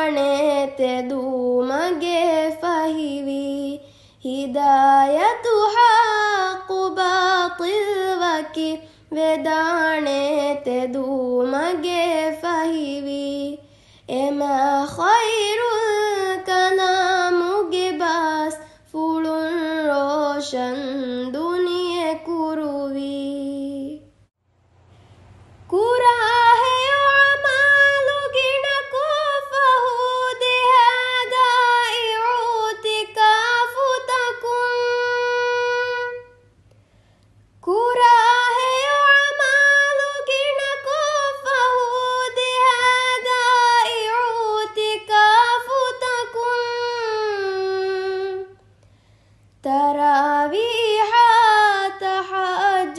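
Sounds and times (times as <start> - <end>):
woman singing: 0.0 - 24.1, 25.7 - 36.4, 37.6 - 48.7, 49.6 - 52.9.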